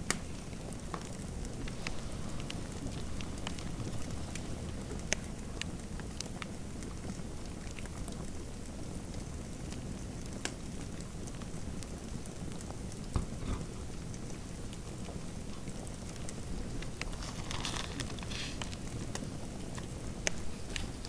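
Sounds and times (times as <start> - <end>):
fire crackling and popping: 0.0 - 21.0
low rush of fire: 0.0 - 21.0.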